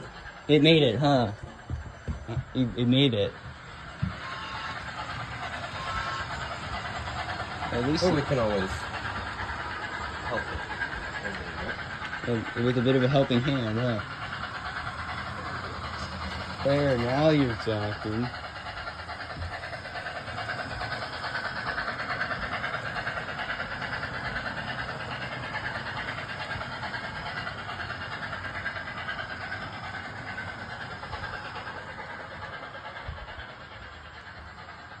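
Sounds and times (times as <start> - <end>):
model train whirring rattle: 0.0 - 35.0.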